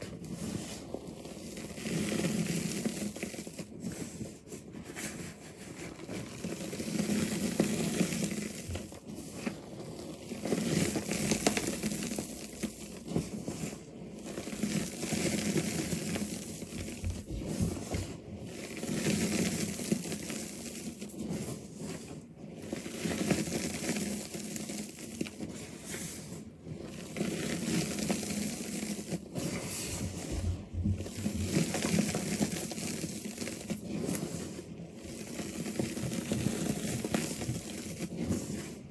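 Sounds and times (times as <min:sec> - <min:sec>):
hands crushing crunchy chunks: 0:05.9 - 0:25.7, 0:26.7 - 0:38.8.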